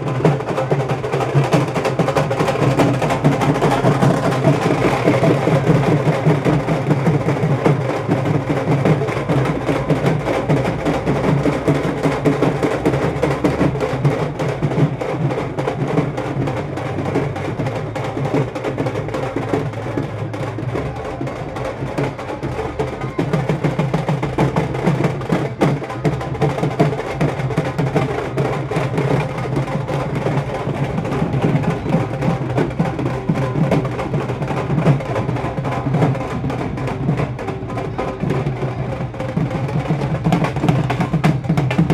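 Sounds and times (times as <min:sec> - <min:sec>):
drums played fast: 0:00.0 - 0:41.9.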